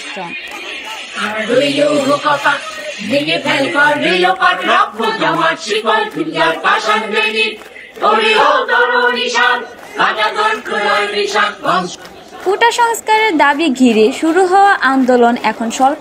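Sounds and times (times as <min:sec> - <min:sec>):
crowd chanting slogans: 0:00.0 - 0:14.6.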